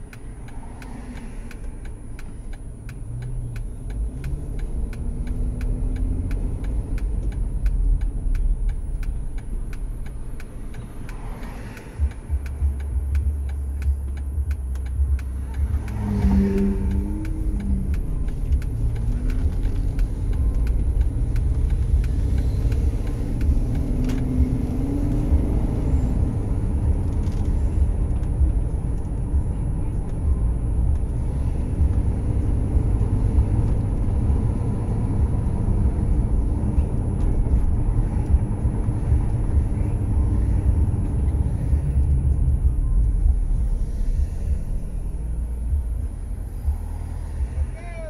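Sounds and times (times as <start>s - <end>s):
car engine and tyres rumbling: 0.0s - 48.0s.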